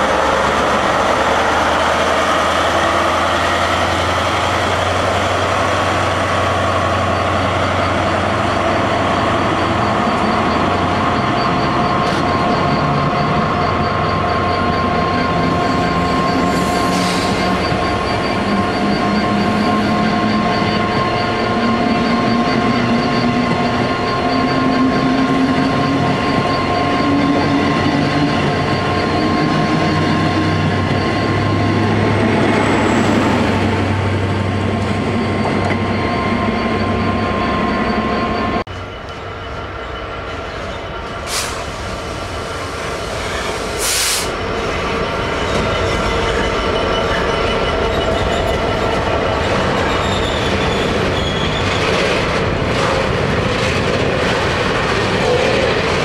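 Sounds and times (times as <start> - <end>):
freight train rumble: 0.0 - 56.0
train coaches rumbling over track: 0.0 - 56.0.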